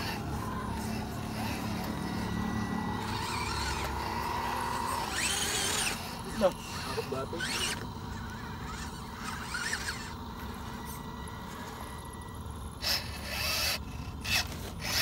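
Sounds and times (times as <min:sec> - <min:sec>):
small electric motors whirring: 0:00.0 - 0:15.0.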